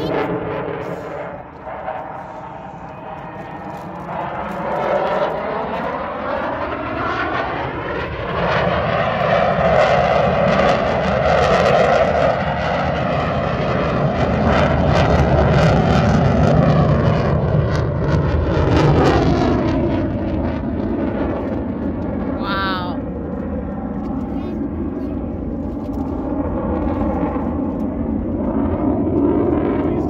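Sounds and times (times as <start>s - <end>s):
jet fighter flying past: 0.0s - 30.0s.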